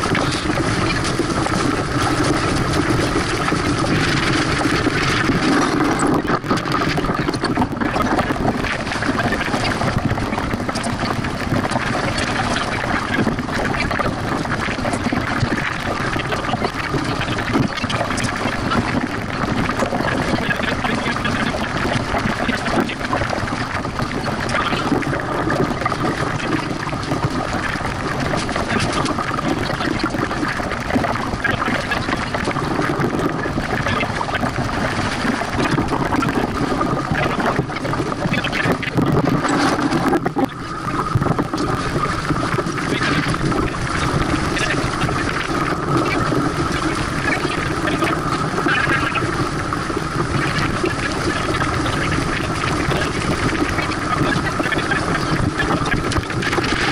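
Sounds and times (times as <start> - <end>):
wind and water rushing past hull: 0.0 - 56.9.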